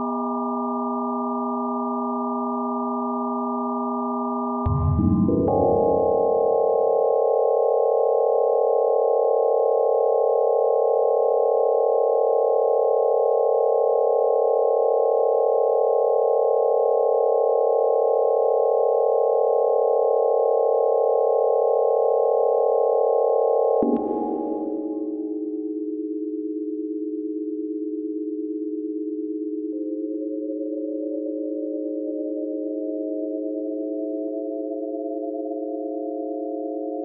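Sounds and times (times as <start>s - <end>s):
electronic sine tone chord: 0.0s - 37.0s.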